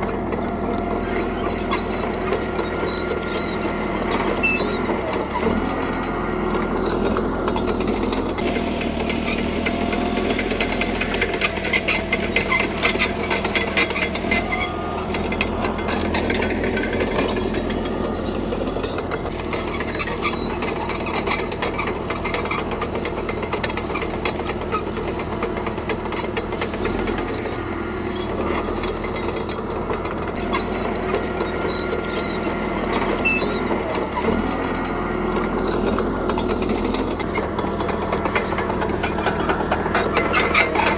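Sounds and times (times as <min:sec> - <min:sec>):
bulldozer diesel engine running: 0:00.0 - 0:40.9
steel tracks clanking and squeaking: 0:00.0 - 0:40.9.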